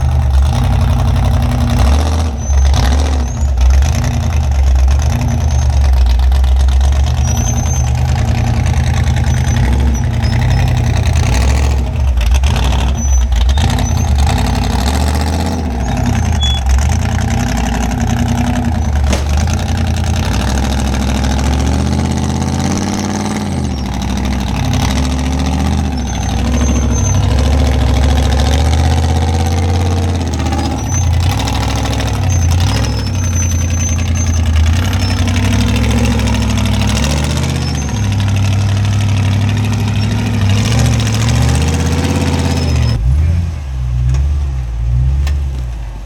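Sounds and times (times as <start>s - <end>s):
off-road engine revving: 0.0s - 46.0s.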